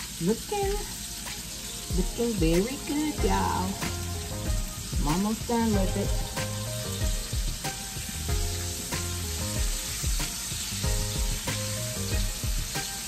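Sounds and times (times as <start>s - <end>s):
background music with beat: 0.0s - 13.0s
chicken wings sizzling: 0.0s - 13.0s.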